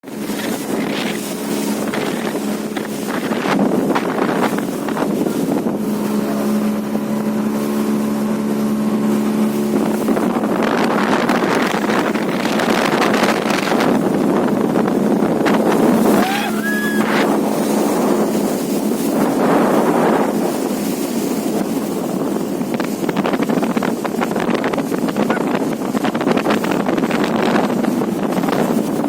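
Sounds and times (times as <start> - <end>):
motorboat engine running: 0.0 - 29.0
wind buffeting microphone: 0.0 - 29.0.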